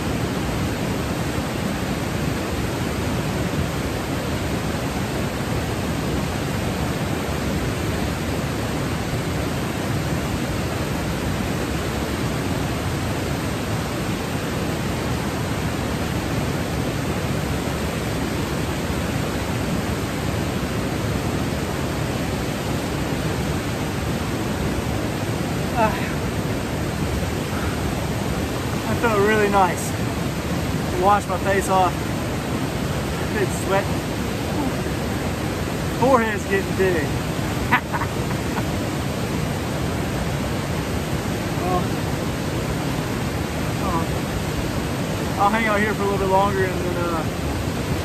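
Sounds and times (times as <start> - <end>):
water cascading over rock: 0.0 - 48.0.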